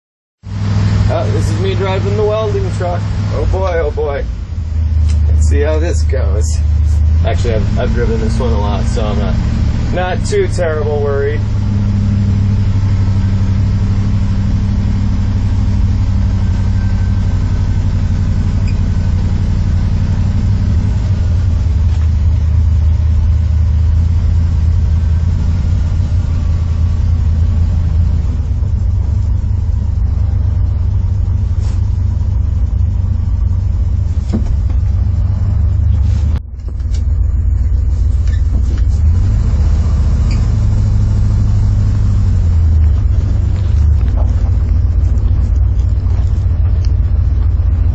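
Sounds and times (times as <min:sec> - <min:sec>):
truck engine low rumble: 0:00.4 - 0:47.9.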